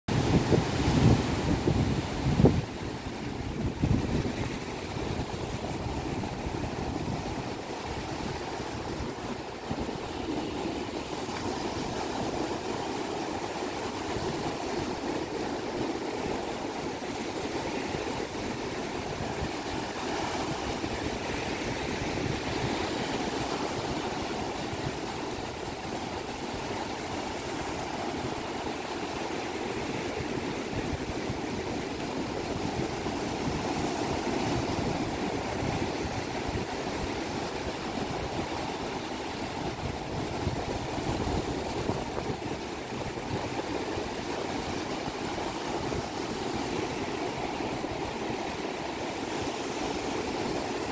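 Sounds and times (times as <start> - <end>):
ocean waves breaking on beach: 0.1 - 50.9.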